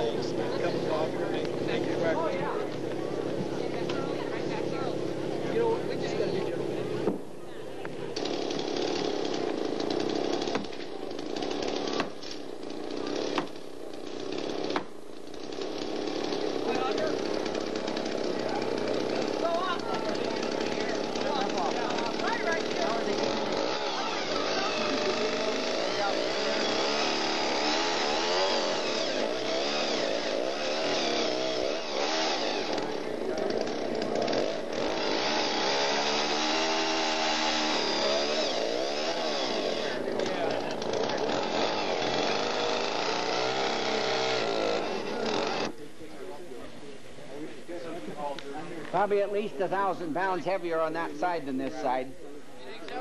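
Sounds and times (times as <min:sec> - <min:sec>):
chainsaw cutting wood: 0:00.0 - 0:07.2, 0:07.8 - 0:45.8.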